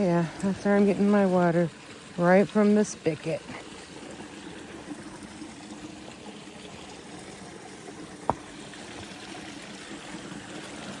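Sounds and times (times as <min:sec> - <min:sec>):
water pouring from a spigot: 0:00.0 - 0:11.0.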